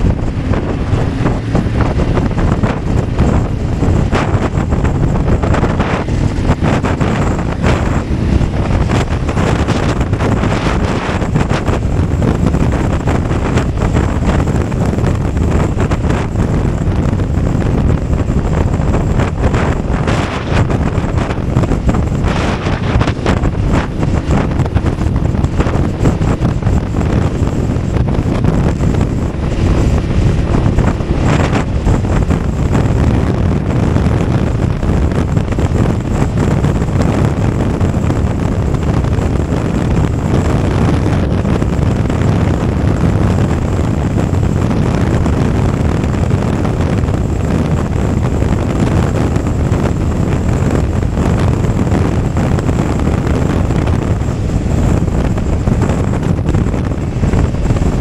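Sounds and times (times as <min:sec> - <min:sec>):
motorcycle engine: 0:00.0 - 0:58.0
road noise: 0:00.0 - 0:58.0
wind rushing over microphone: 0:00.0 - 0:58.0.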